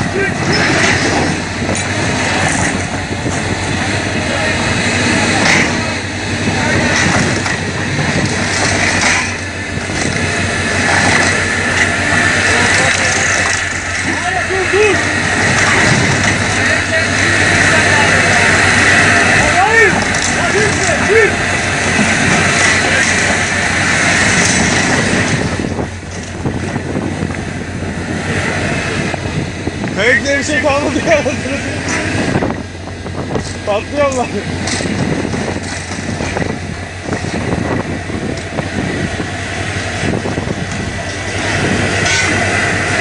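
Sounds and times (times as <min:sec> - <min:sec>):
hydraulic excavator running: 0:00.0 - 0:43.0.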